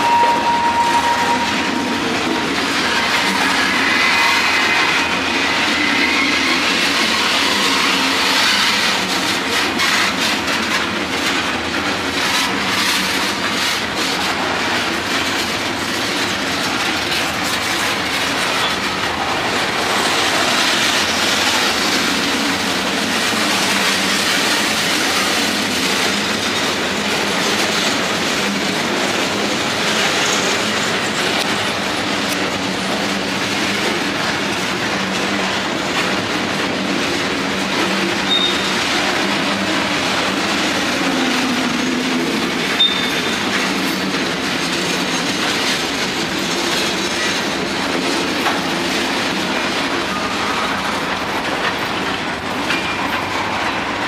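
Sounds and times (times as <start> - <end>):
train wheels rumbling on rails: 0.0 - 54.0
wheels clicking over rail joints: 0.0 - 54.0.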